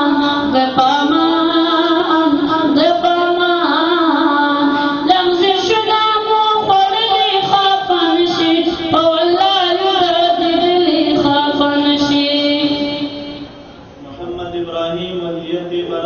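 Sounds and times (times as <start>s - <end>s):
person singing unaccompanied: 0.0s - 13.4s.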